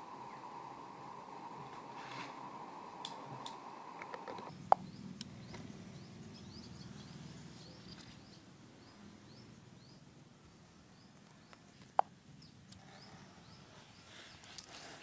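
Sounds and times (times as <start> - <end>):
birds chirping: 0.0 - 15.0
low outdoor murmur: 0.0 - 15.0.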